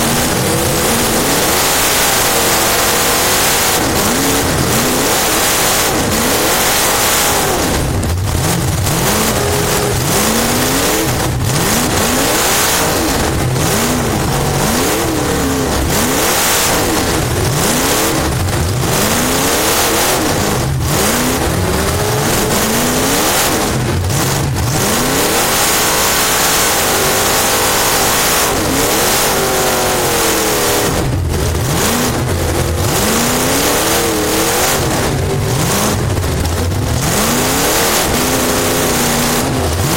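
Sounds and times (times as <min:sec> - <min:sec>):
race car engine accelerating: 0:00.0 - 0:39.9
steady rush of noise: 0:00.0 - 0:39.9.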